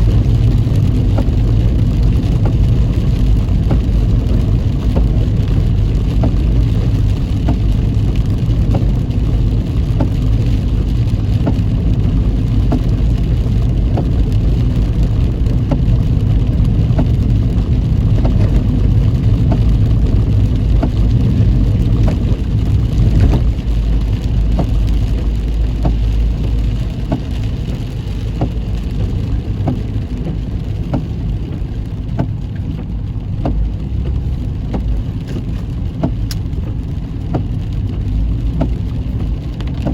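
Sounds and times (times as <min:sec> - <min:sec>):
car road and engine rumble: 0:00.0 - 0:39.9
rain on a car: 0:00.0 - 0:39.9
light ticks: 0:00.1 - 0:39.9.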